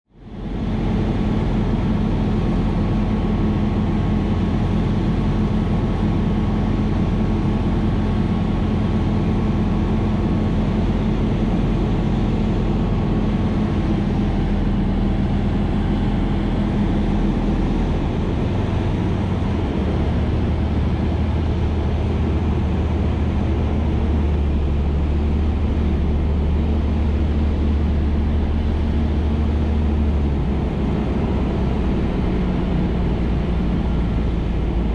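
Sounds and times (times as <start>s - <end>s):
airplane engine droning: 0.1s - 34.9s.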